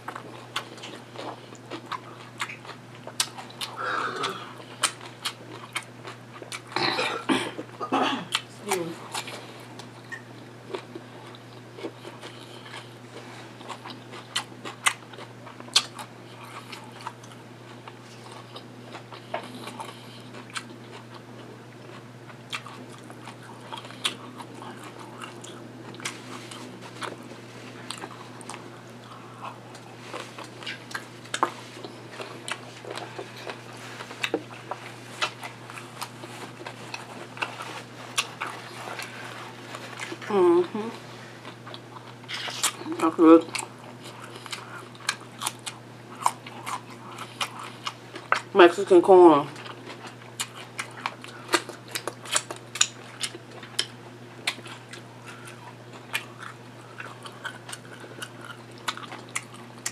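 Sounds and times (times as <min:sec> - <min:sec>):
close chewing and biting: 0:00.0 - 0:06.9, 0:08.3 - 0:48.5, 0:49.5 - 0:59.9
steady low hum: 0:00.0 - 0:59.9.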